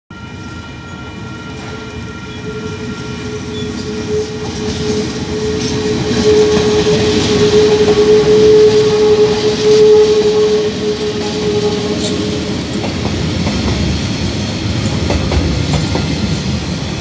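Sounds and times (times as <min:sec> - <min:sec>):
diesel locomotive engine rumble: 0:00.1 - 0:17.0.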